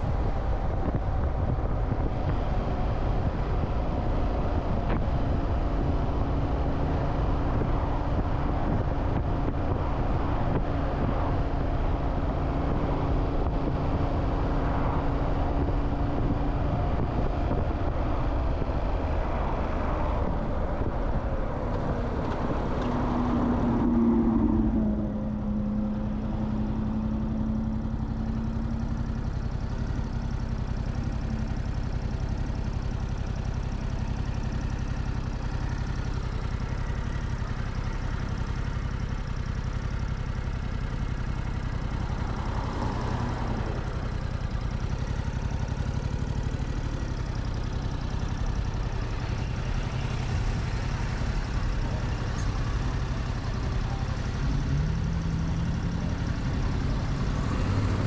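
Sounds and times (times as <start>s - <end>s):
motorcycle riding and idling: 0.0s - 58.0s
wind and road noise: 0.0s - 58.0s.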